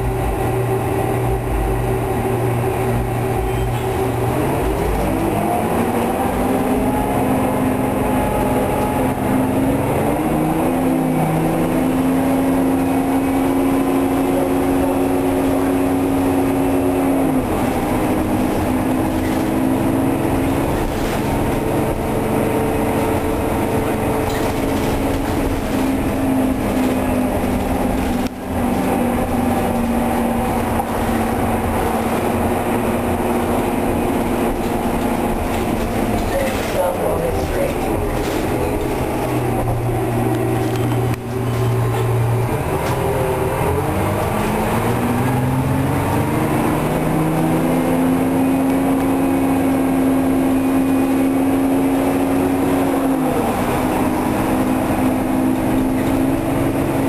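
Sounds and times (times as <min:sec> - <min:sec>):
bus diesel engine accelerating: 0:00.0 - 0:57.0.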